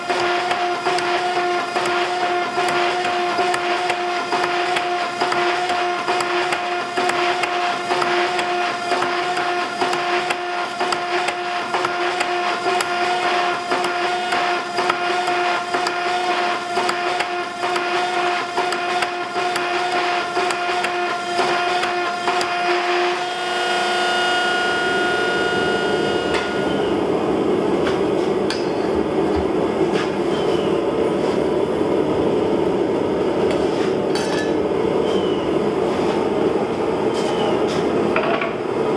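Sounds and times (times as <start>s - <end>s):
steady machine noise: 0.0s - 33.4s
forging press humming: 0.0s - 38.9s.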